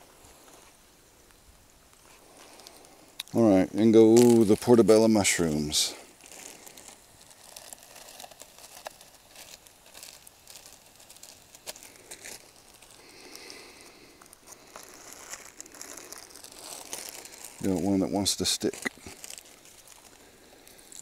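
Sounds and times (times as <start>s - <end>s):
plastic bag crinkling: 2.0s - 21.0s.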